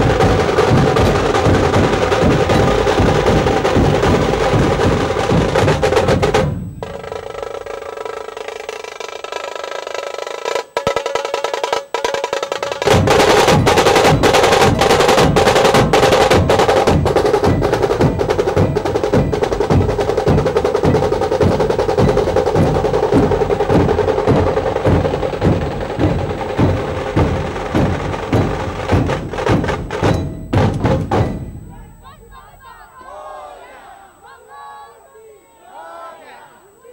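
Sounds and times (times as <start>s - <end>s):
drum band drumming: 0.0s - 32.7s.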